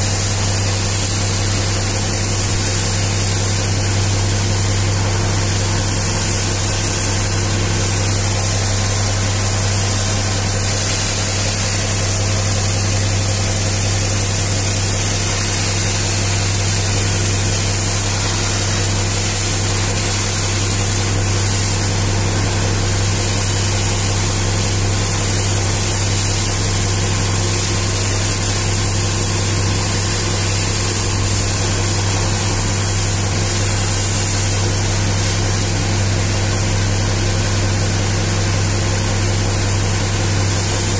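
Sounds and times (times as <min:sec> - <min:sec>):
high-pressure water jet hissing: 0:00.0 - 0:40.9.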